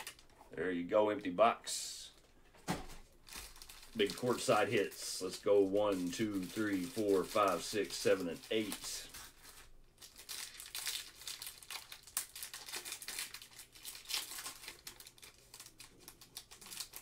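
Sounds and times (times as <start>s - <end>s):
foil wrapper tearing and crinkling: 3.2s - 17.0s.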